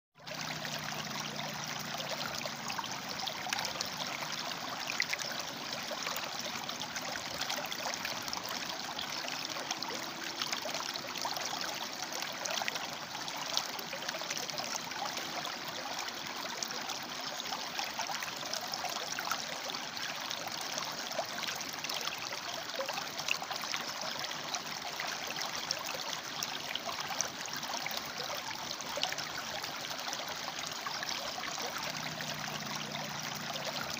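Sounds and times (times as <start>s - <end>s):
river water babbling over rocks: 0.2s - 33.9s.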